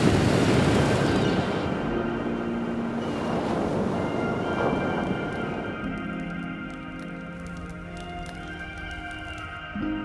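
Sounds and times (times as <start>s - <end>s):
ocean surf: 0.0s - 10.0s
wind: 0.0s - 10.0s.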